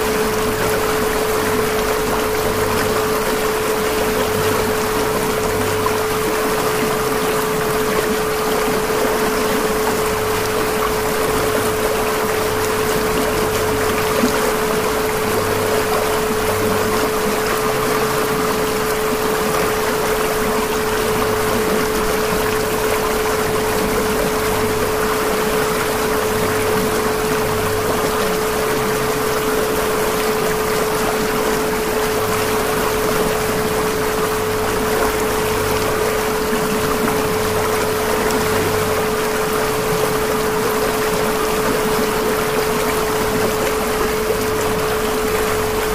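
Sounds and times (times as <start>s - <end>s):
rushing water-like noise: 0.0s - 45.9s.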